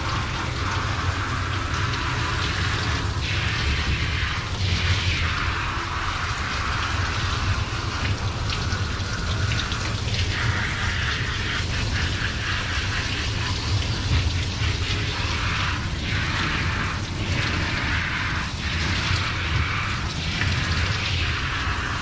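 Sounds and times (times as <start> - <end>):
hose water spraying: 0.0 - 22.0.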